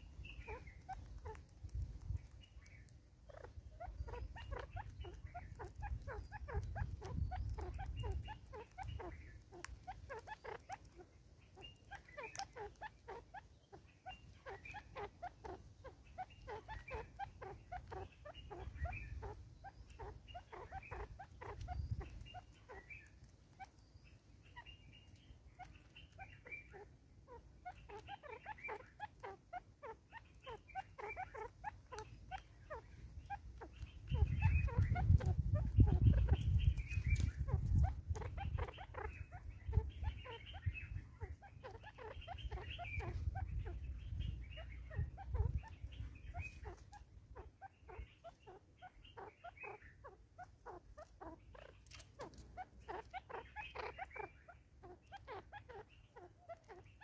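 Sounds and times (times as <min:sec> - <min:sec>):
birds clucking: 0:00.0 - 0:57.0.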